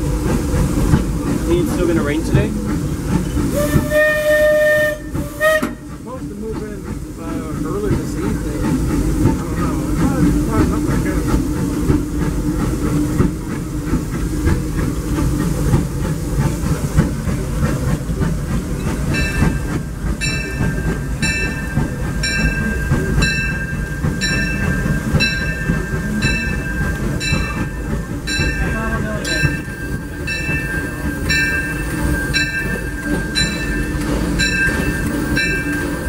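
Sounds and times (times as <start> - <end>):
steam hiss: 0.0 - 36.0
steam train running: 0.0 - 36.0
train wheel clatter: 0.0 - 36.0.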